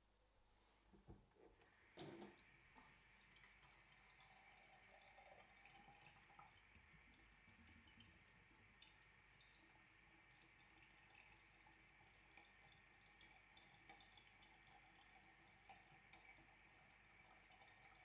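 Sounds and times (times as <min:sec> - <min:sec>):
water running from faucet: 0:01.7 - 0:18.0.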